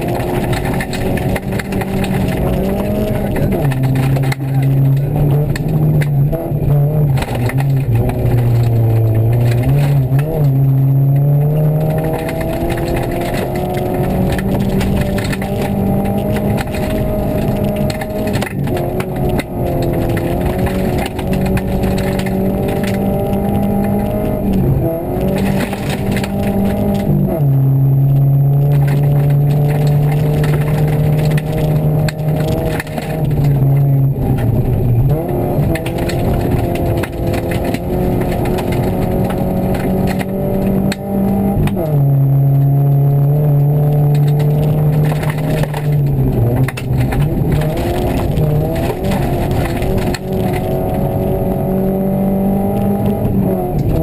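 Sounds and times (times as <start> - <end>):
cracks and knocks from car: 0.0 - 27.4, 28.6 - 54.0
car engine pulling hard: 0.0 - 54.0.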